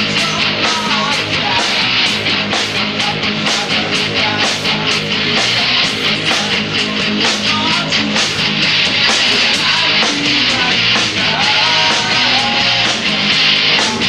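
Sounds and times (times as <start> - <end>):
distorted electric guitar: 0.0 - 14.0
drum and cymbal hits: 0.0 - 14.0
live rock band playing: 0.0 - 14.0.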